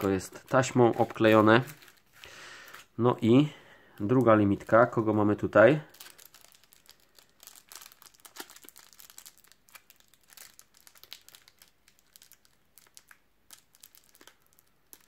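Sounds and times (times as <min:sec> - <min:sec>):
plastic blister pack crinkling: 0:00.0 - 0:15.0.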